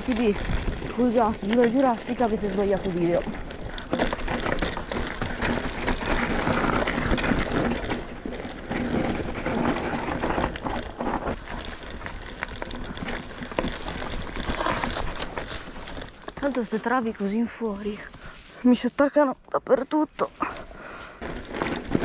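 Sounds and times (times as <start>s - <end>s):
bike rattling clicks and knocks: 0.0s - 18.4s, 20.4s - 22.0s
bike tyres rolling on dirt: 0.0s - 22.0s.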